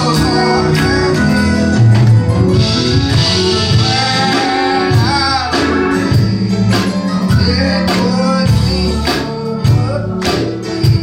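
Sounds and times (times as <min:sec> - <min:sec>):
singing a hymn: 0:00.0 - 0:01.9, 0:03.6 - 0:11.0
band accompaniment: 0:00.0 - 0:11.0
guitar playing: 0:00.0 - 0:11.0.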